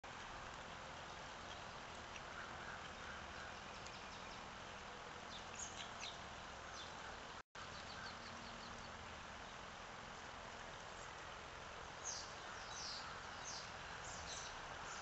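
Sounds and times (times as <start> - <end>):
outdoor hiss: 0.0 - 15.0
small birds chirping: 1.0 - 9.7, 10.9 - 15.0.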